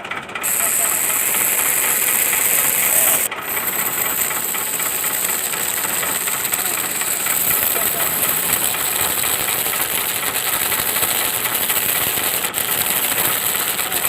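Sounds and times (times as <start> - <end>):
high-pitched whine: 0.4 - 14.0
small electric motor buzzing: 0.4 - 14.0.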